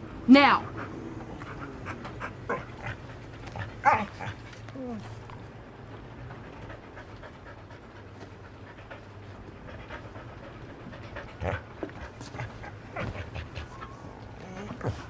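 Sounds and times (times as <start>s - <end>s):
dog panting: 0.0s - 15.0s
steady low hum: 0.0s - 15.0s.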